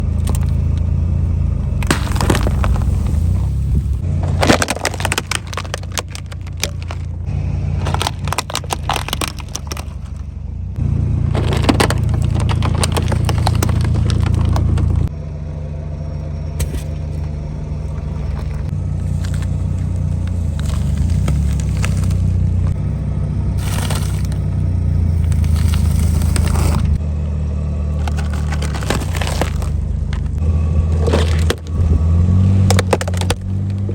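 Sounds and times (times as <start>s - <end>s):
tyres crushing brittle objects: 0.0s - 0.9s, 1.7s - 10.3s, 11.2s - 15.1s, 16.6s - 22.8s, 23.6s - 27.0s, 28.0s - 33.9s
car rumble: 0.0s - 33.9s.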